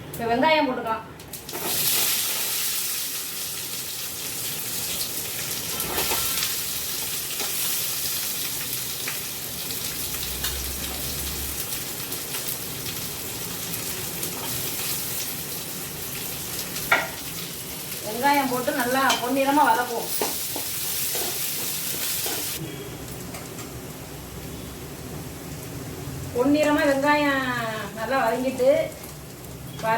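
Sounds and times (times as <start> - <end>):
onions sizzling in a pan: 1.3 - 29.9.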